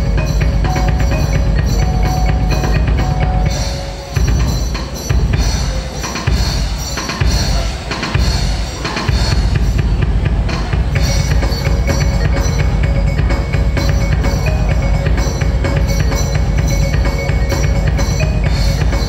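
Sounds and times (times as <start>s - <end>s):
dance music with heavy drums: 0.0s - 19.0s.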